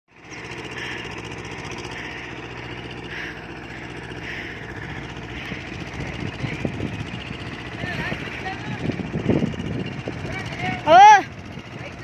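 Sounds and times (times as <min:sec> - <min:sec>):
tractor engine running: 0:00.1 - 0:12.0.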